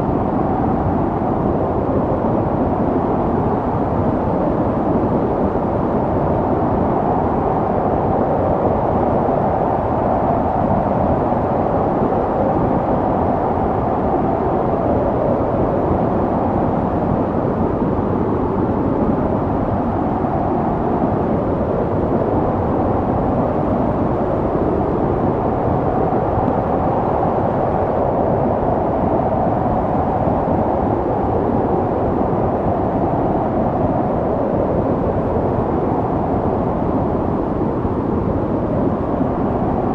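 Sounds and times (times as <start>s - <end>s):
snowstorm wind rushing: 0.0s - 39.9s.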